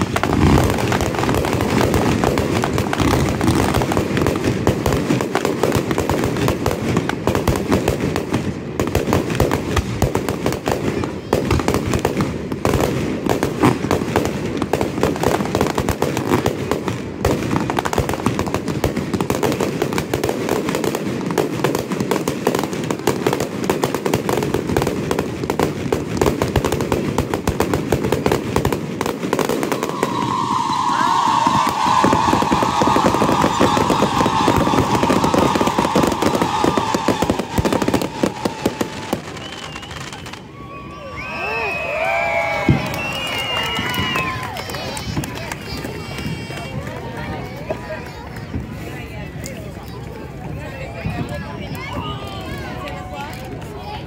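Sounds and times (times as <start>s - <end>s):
fireworks crackling and banging: 0.0s - 54.0s.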